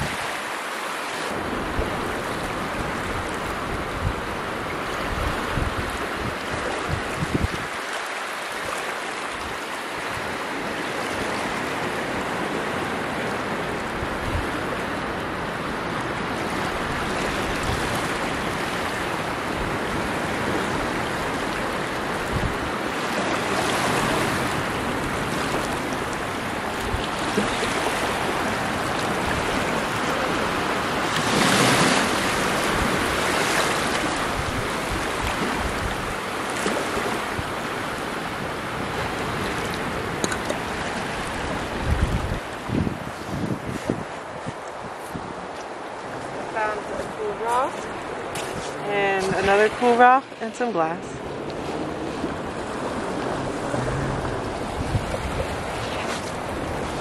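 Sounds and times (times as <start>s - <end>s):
wind on microphone: 0.0s - 0.3s, 1.3s - 7.8s, 8.6s - 50.2s, 50.8s - 57.0s
surf washing onto beach: 0.0s - 57.0s
wave breaking: 0.0s - 57.0s.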